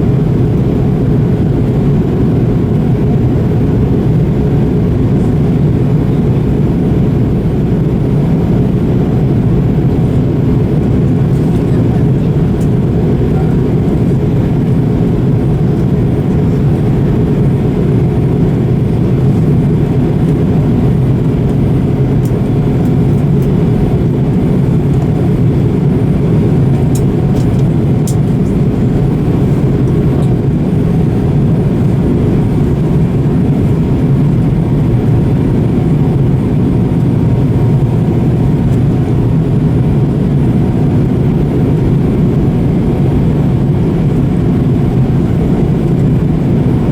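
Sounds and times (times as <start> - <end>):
airliner cabin engine drone: 0.0 - 46.9.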